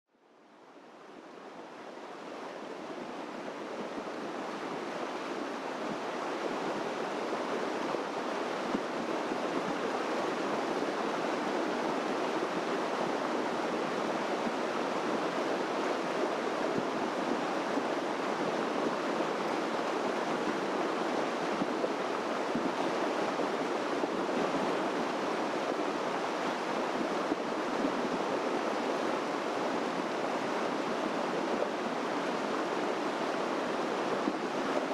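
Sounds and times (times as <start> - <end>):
running water rushing: 0.3 - 34.9.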